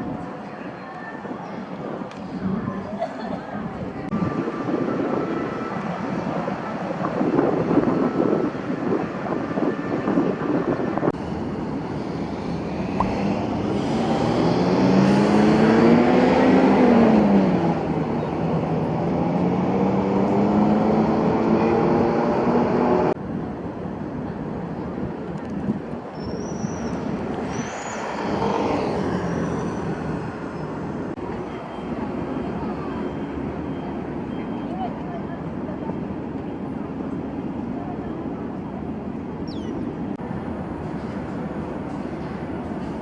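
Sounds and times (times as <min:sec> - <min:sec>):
vehicle engine in traffic: 0:05.8 - 0:43.0.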